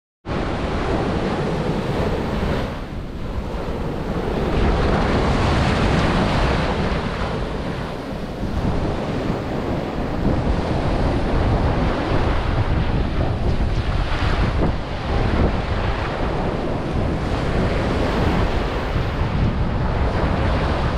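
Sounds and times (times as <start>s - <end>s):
ocean surf breaking: 0.3s - 20.9s
wind buffeting microphone: 0.3s - 20.9s.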